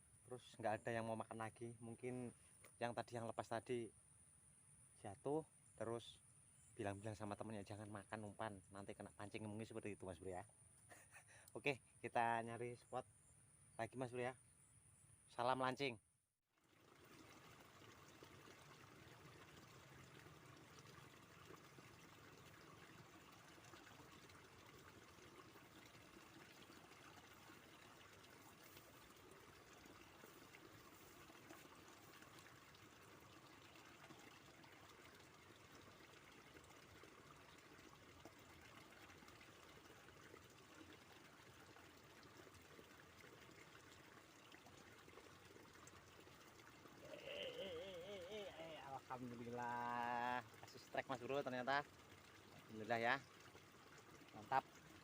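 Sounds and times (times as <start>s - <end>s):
faint flowing stream: 0.0s - 55.0s.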